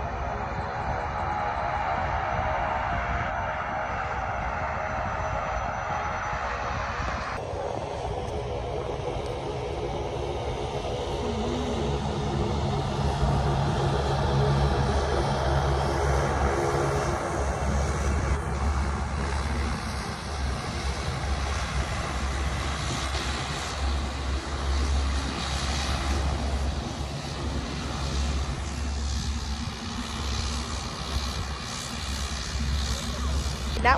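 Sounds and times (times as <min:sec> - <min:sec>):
jet engines rumbling: 0:00.0 - 0:33.9
turboprop plane taxiing: 0:00.0 - 0:33.9.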